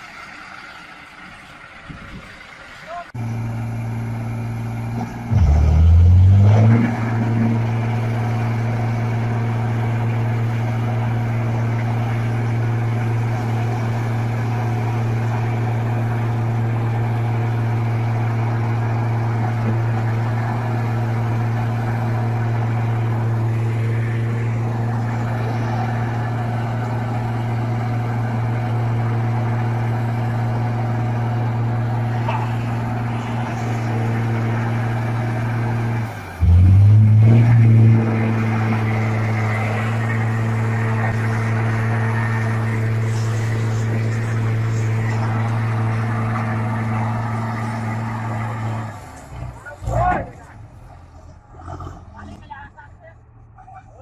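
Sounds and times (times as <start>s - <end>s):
vehicle engine revving: 3.2s - 53.0s.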